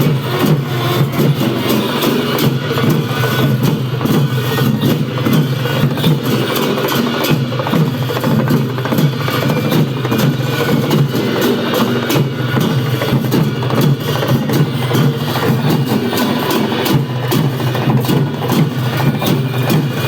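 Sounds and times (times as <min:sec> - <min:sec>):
fast drumming: 0:00.0 - 0:20.0.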